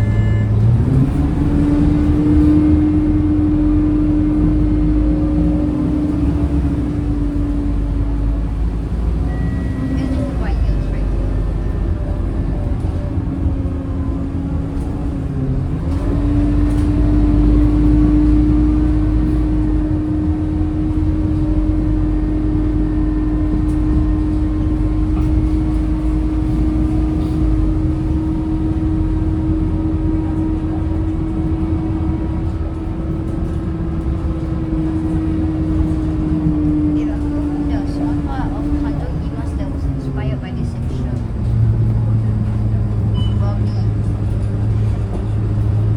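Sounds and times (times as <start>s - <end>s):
diesel engine rumble: 0.0s - 45.9s
steady engine whine: 0.0s - 45.9s.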